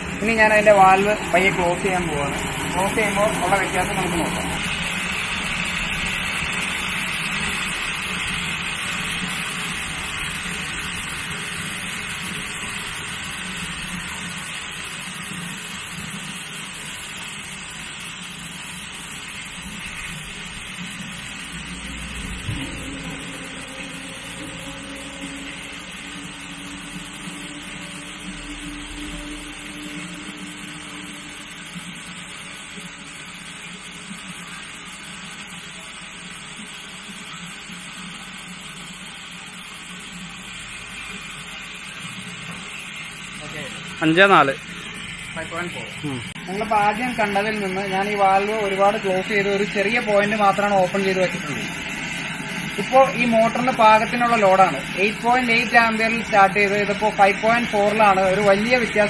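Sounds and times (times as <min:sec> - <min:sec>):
water gushing into plastic drum: 0:00.0 - 0:59.0.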